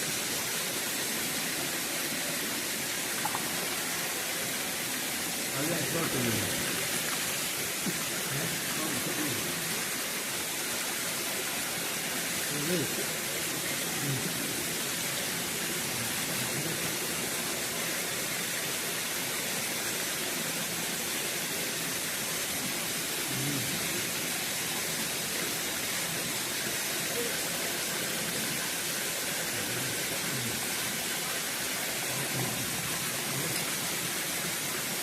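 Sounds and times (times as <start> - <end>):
stream flowing over rocks: 0.0 - 35.0.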